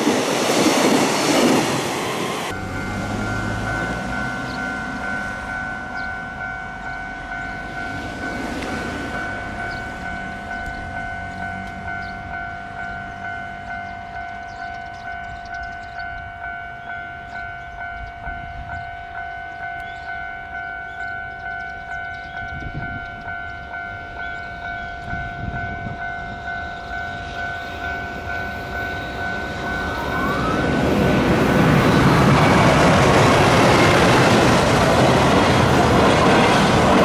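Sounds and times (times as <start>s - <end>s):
level-crossing warning bell: 0.0s - 37.0s
train rumble: 0.0s - 37.0s.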